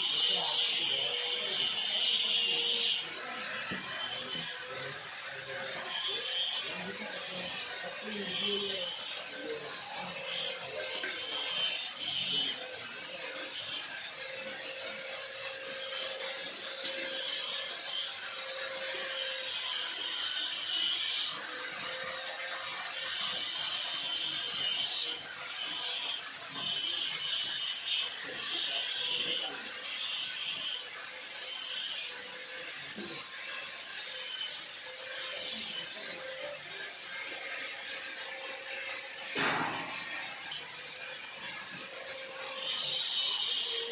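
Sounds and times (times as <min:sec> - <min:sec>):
power tool whining: 0:00.0 - 0:43.9.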